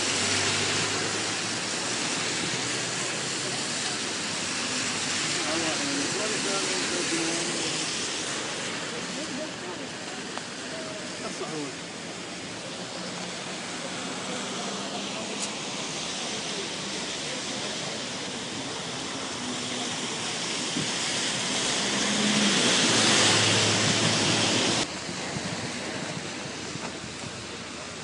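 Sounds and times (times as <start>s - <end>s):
rain hiss: 0.0s - 28.0s
wet-road traffic: 0.0s - 28.0s.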